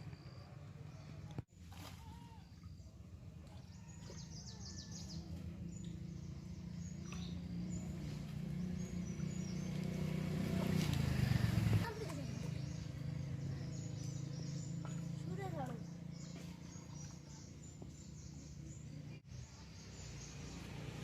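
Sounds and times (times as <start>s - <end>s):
small birds chirping: 2.0s - 21.0s.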